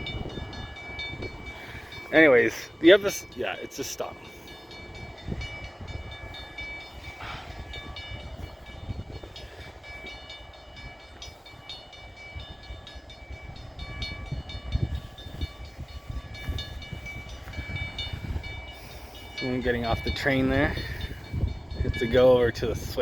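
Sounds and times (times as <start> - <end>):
crossing bell dinging: 0.0 - 23.0
train low rumble: 0.0 - 23.0.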